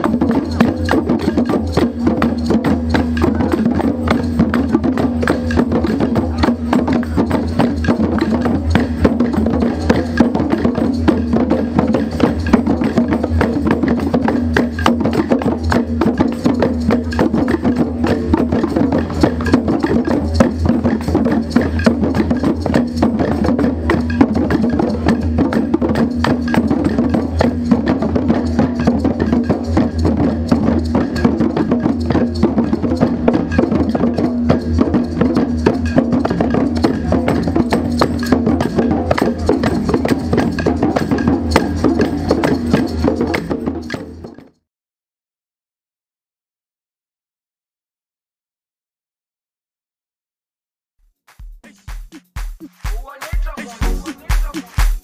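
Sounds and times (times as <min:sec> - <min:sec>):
djembe drums played by hand: 0:00.0 - 0:44.5, 0:51.3 - 0:55.0.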